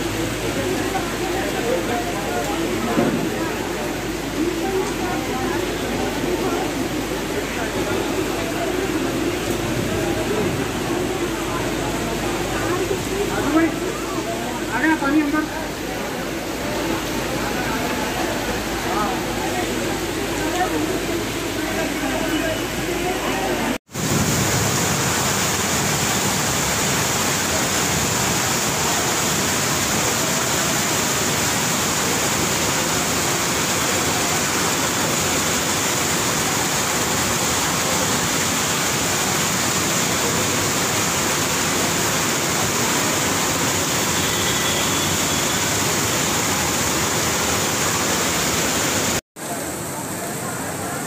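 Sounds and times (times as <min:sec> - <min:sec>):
heavy rain on standing water: 0:00.0 - 0:51.0.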